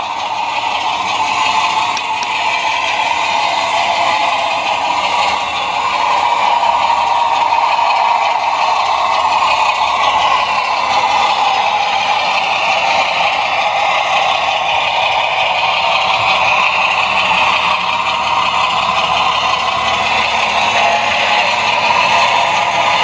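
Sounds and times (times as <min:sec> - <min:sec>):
model train motor whine: 0:00.0 - 0:23.0
wheels rattling on rails: 0:00.0 - 0:23.0.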